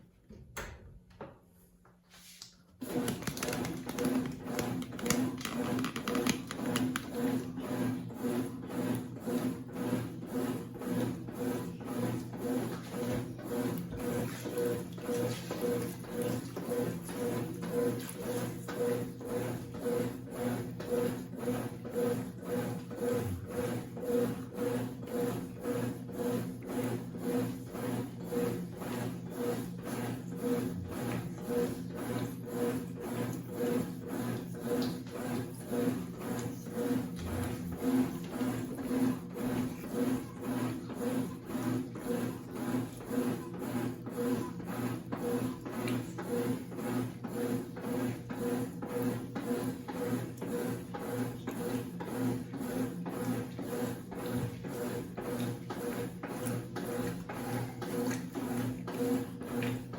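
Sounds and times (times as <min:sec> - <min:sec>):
washing machine motor hum: 0:02.2 - 0:59.9.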